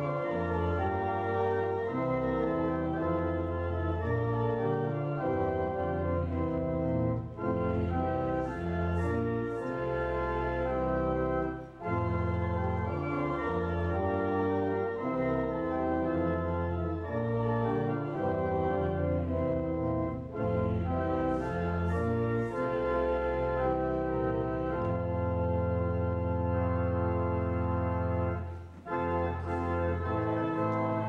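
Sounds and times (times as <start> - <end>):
church organ playing held chords: 0.0 - 31.0.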